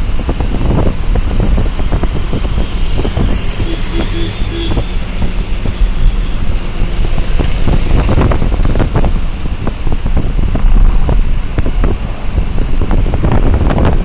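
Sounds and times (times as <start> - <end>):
moving vehicle rumble: 0.0 - 14.0
road traffic: 0.0 - 14.0
wind buffeting microphone: 0.0 - 14.0.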